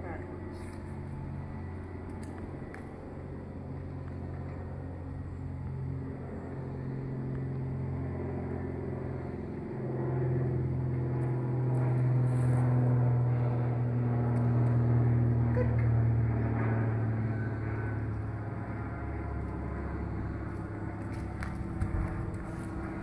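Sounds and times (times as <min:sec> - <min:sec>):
engine running with low hum: 0:00.0 - 0:23.0.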